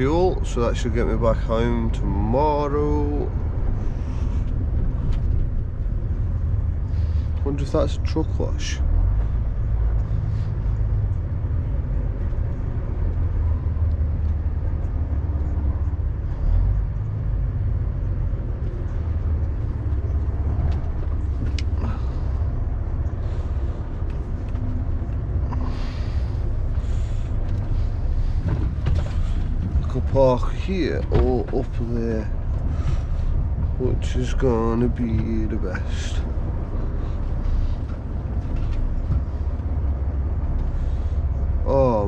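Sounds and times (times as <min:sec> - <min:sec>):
diesel engine low rumble: 0:00.0 - 0:42.0.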